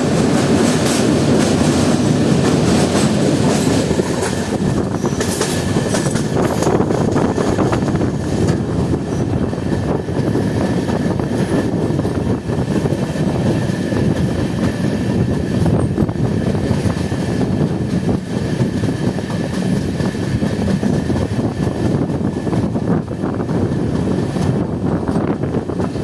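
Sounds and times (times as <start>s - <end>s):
train rumbling over steel bridge: 0.0s - 26.0s
wheels clattering on rails: 0.0s - 26.0s.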